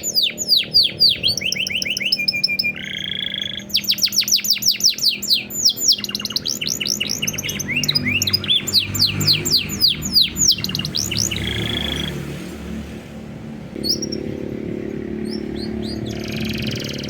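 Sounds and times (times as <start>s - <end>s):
canary singing: 0.0s - 12.8s, 13.8s - 17.0s.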